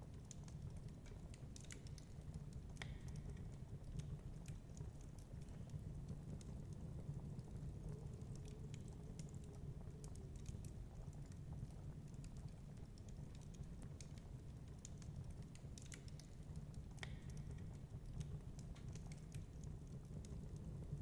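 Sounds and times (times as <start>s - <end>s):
fireplace crackling: 0.1s - 21.0s.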